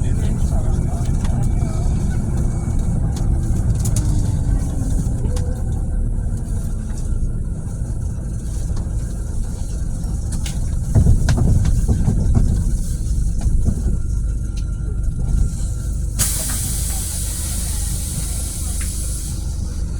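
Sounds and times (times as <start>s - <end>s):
bus engine and road rumble: 0.0s - 19.9s.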